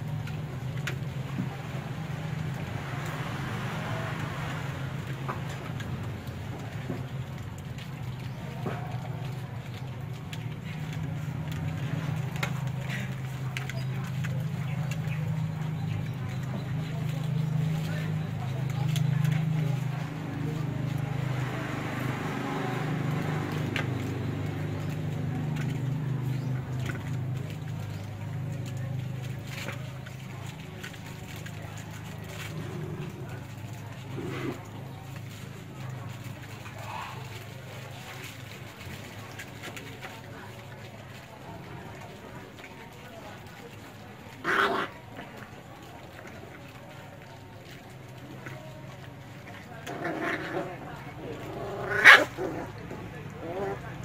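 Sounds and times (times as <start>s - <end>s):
puppies eating from plastic bowl: 0.0s - 54.0s.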